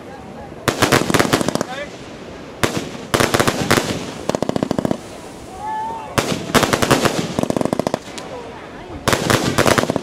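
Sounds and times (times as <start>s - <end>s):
fireworks bangs and crackles: 0.6s - 5.4s, 6.1s - 10.0s.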